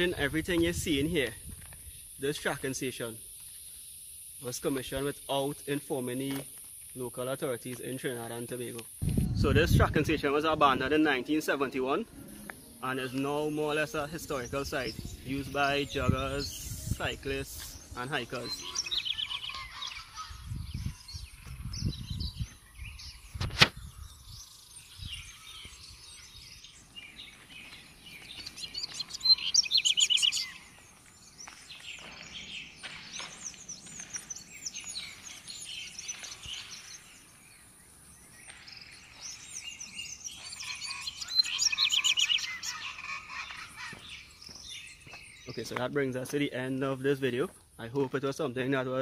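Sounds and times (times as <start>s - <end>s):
wild birds chirping: 0.0s - 9.0s, 9.6s - 49.0s.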